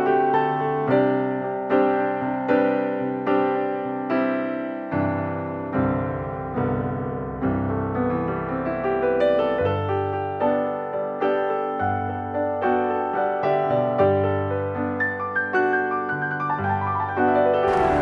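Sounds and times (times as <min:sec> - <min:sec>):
slow piano piece: 0:00.0 - 0:18.0.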